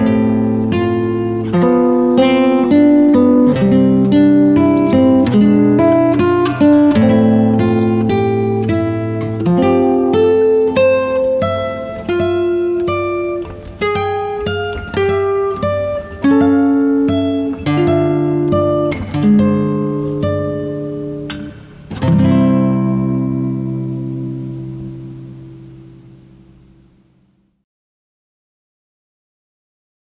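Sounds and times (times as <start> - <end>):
plucked guitar melody: 0.0 - 27.0
guitar chord ringing: 0.0 - 27.2.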